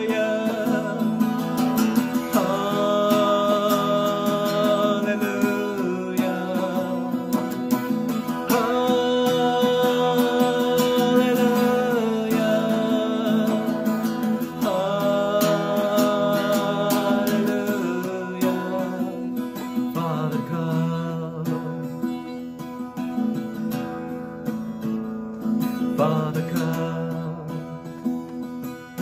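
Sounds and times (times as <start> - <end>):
man singing a worship song: 0.0 - 21.8, 25.9 - 27.8
acoustic guitar strumming: 0.0 - 29.0.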